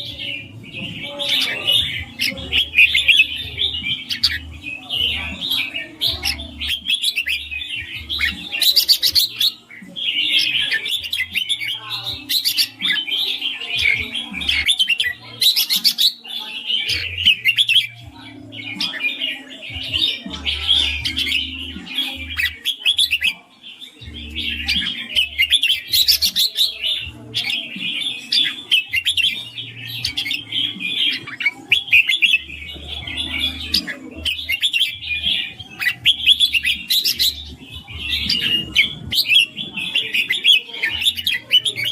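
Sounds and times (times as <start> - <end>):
bird chirping: 0.0 - 41.9.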